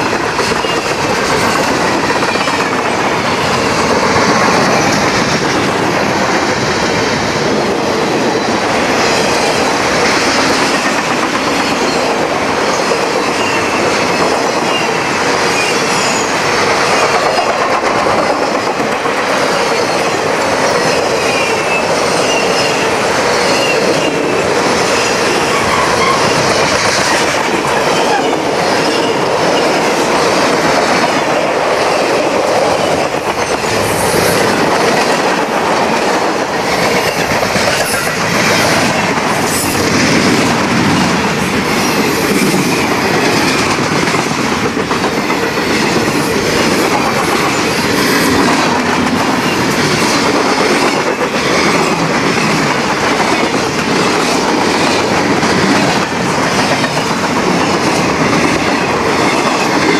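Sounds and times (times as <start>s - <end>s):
freight train wheels rumbling: 0.0s - 59.9s
wheels clattering on rail joints: 0.0s - 59.9s.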